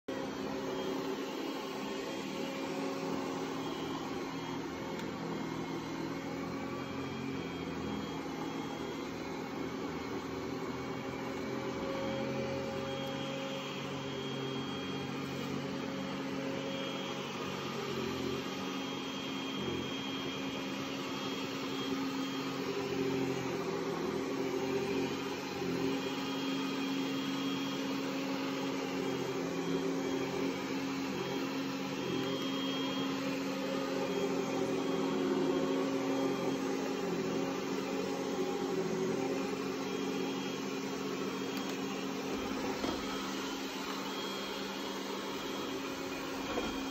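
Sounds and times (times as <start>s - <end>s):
robot vacuum humming: 0.1s - 46.9s.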